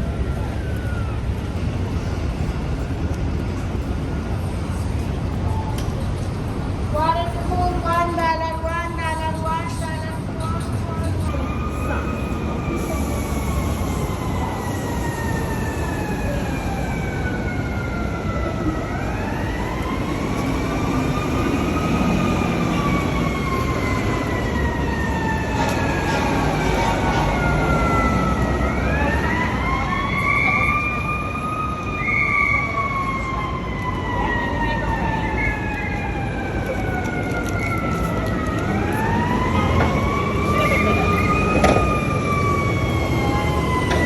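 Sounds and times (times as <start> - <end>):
emergency siren wailing: 0.0 - 6.0, 6.9 - 44.0
city traffic noise: 0.0 - 44.0.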